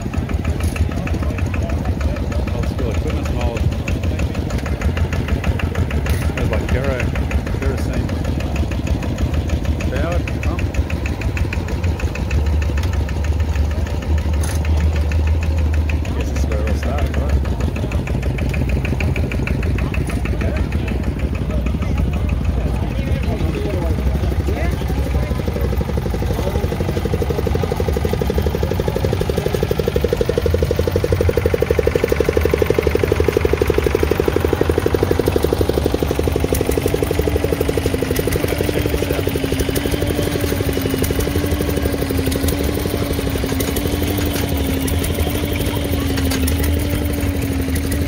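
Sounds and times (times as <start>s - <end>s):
stationary engines putt-putting: 0.0s - 48.0s.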